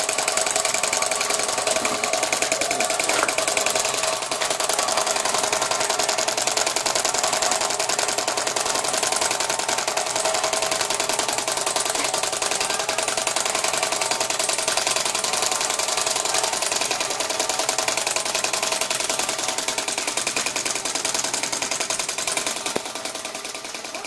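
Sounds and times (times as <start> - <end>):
stirling engine mechanical rattle: 0.0 - 24.0.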